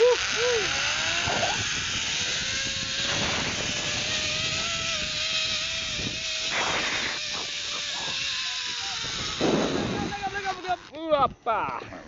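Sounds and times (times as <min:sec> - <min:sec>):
zip line pulley whine: 0:00.0 - 0:11.1
wind noise: 0:00.0 - 0:11.5.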